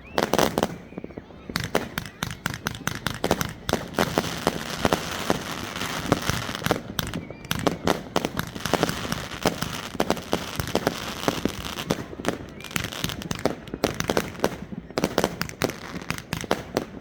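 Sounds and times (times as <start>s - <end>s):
fireworks bangs: 0.0s - 17.0s
fireworks crackle: 0.0s - 17.0s.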